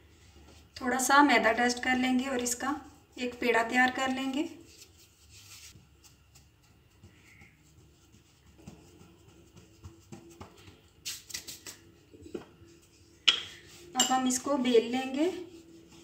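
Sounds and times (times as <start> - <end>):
hands patting dough: 2.4 - 16.0.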